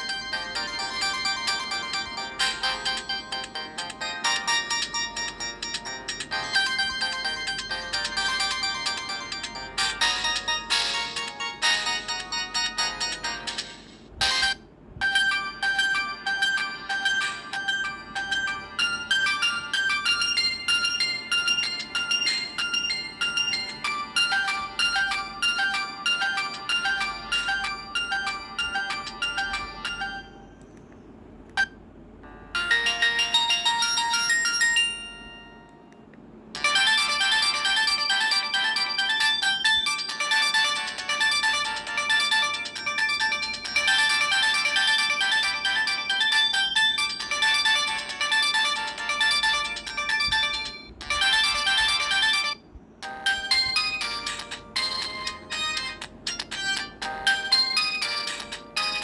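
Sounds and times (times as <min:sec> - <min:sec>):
electronic ringtone melodies: 0:00.0 - 0:30.6, 0:31.6 - 0:59.0.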